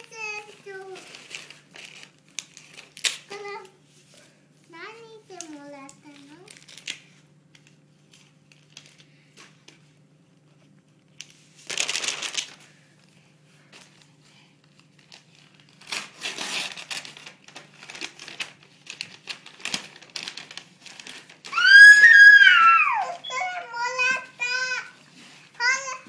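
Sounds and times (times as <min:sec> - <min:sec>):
wrapping paper crinkling and tearing: 0:00.0 - 0:04.3, 0:05.2 - 0:09.1, 0:11.2 - 0:12.9, 0:13.8 - 0:26.0.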